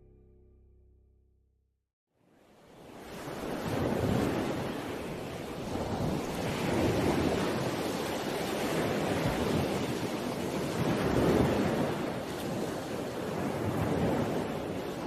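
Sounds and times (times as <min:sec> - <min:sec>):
sea waves washing: 0:02.7 - 0:15.0.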